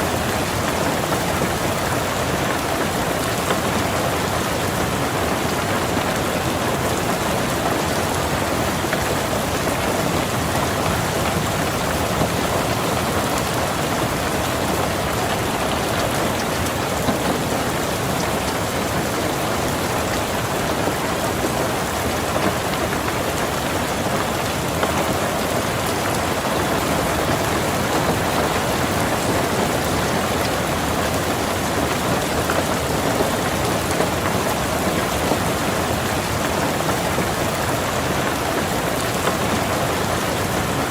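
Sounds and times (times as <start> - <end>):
heavy rain on car roof: 0.0 - 40.9.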